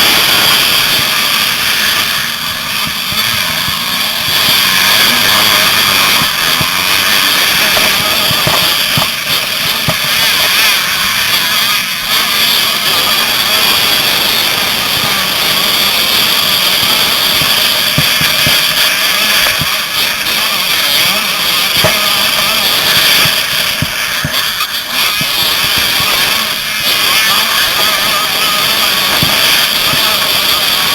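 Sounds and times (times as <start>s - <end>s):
motocross bike engines revving: 0.0s - 30.9s.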